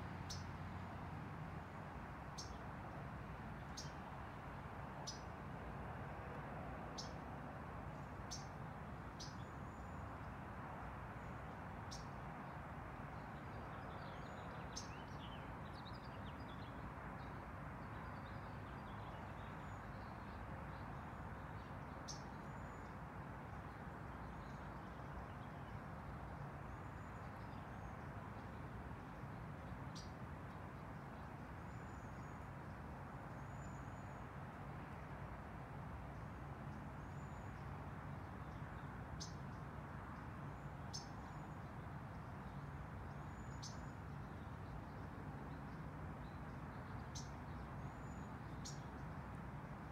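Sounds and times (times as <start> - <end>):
low background hiss: 0.0 - 49.9.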